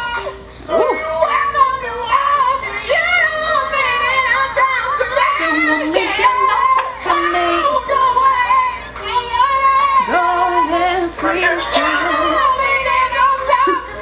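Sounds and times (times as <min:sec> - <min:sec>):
backing music: 0:00.0 - 0:14.0
person singing soulful song: 0:00.0 - 0:14.0.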